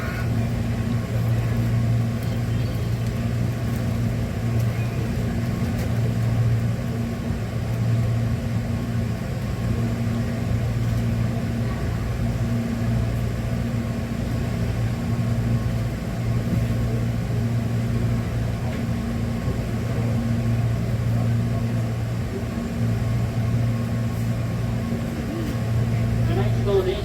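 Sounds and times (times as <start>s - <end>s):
electric train humming: 0.0s - 27.0s.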